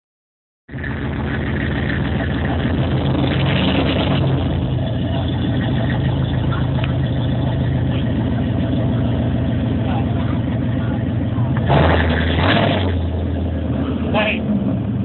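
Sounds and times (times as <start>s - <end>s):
car engine running: 0.7s - 15.0s.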